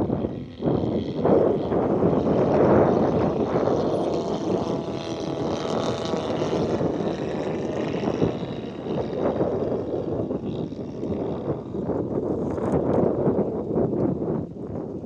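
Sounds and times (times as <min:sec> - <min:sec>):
model airplane motor buzzing: 0:00.0 - 0:15.0
wind noise on microphone: 0:00.0 - 0:15.0.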